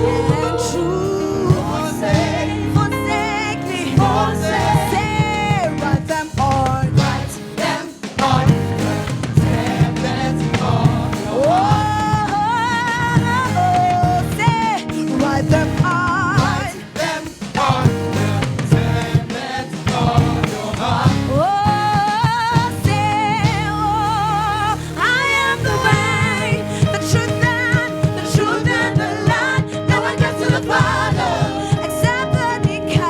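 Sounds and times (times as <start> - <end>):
band with drums: 0.0 - 33.0
singers with vibrato: 0.0 - 33.0.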